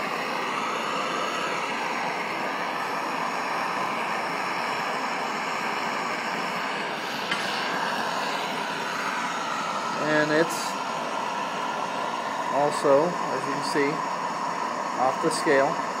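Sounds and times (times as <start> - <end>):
gas torch hissing: 0.0 - 16.0.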